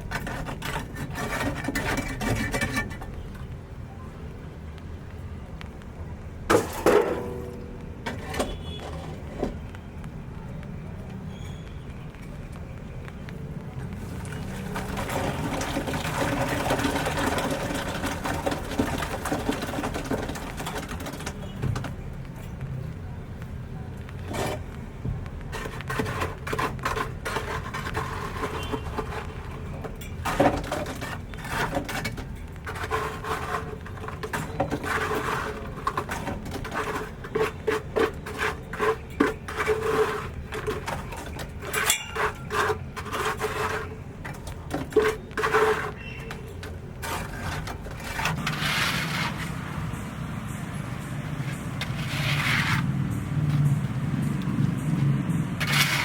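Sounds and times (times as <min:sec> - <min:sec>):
scraping and rubbing on wood: 0:00.0 - 0:03.5, 0:06.5 - 0:09.6, 0:13.8 - 0:22.0, 0:24.1 - 0:50.0, 0:51.4 - 0:56.0.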